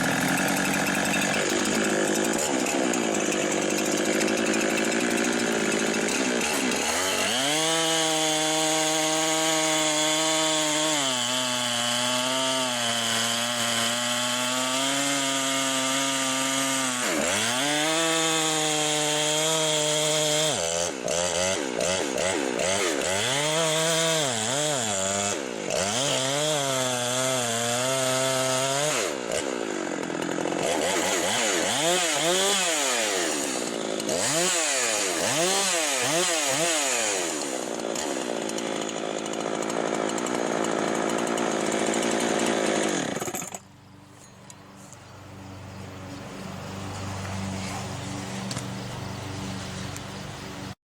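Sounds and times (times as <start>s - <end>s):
chainsaw revving: 0.0s - 43.8s, 44.4s - 50.8s.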